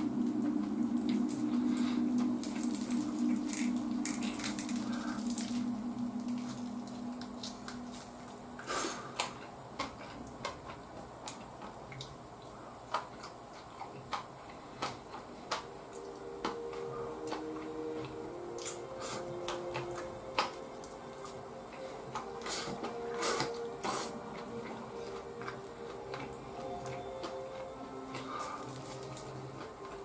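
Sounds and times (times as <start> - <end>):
faint background music: 0.0 - 30.0
person chewing chicken: 0.4 - 30.0.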